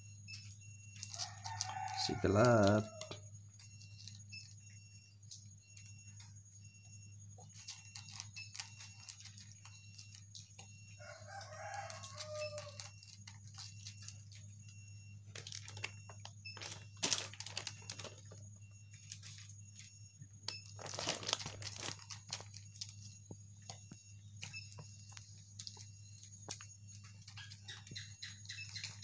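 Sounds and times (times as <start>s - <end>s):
cats chewing and lapping: 0.4s - 6.6s, 7.2s - 29.0s.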